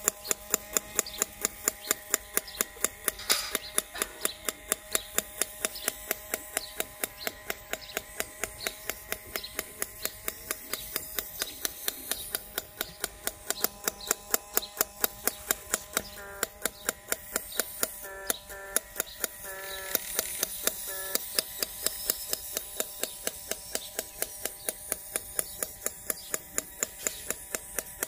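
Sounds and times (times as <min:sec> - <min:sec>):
electric motor whine: 0:00.0 - 0:28.0
regular clicking: 0:00.0 - 0:28.0.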